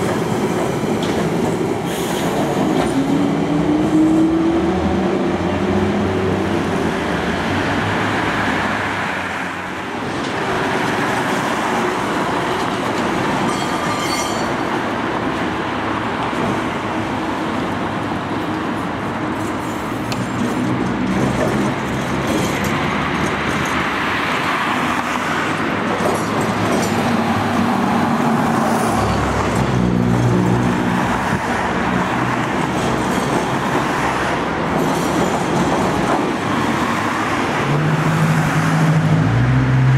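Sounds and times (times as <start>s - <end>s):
tram running on street track: 0.0s - 39.9s.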